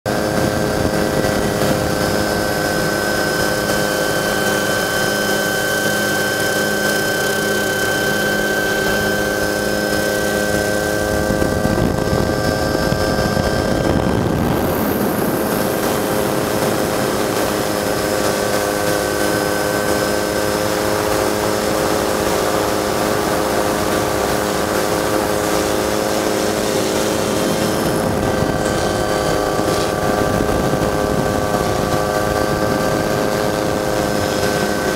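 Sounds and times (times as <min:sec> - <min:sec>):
helicopter turbine and rotor drone: 0:00.1 - 0:34.9.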